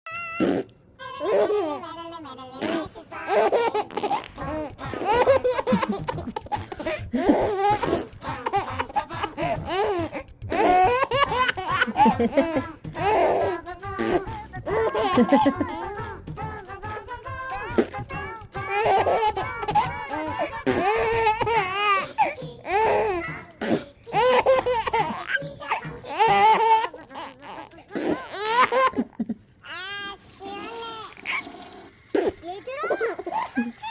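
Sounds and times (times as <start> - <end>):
baby laughing: 0.1 - 16.1, 17.5 - 33.9.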